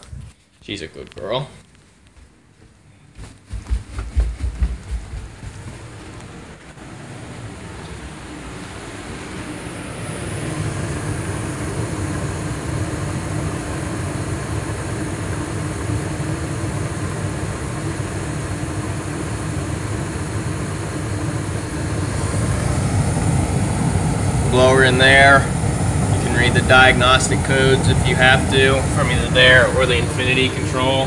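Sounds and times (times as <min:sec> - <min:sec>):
gas furnace running: 0:00.0 - 0:31.0.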